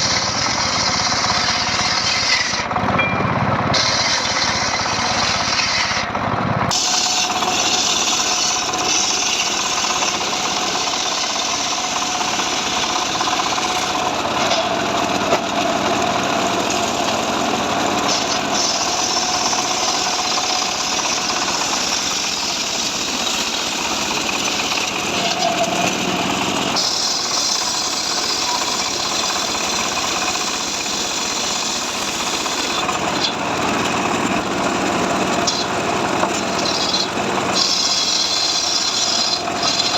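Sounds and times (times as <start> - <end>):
chainsaw cutting wood: 6.7 - 39.9.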